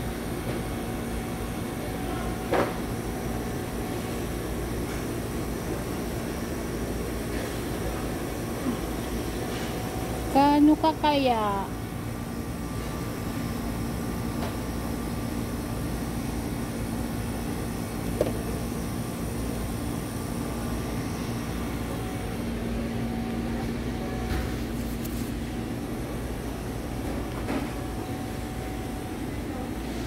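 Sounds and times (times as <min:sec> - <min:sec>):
air conditioning hum: 0:00.0 - 0:30.0.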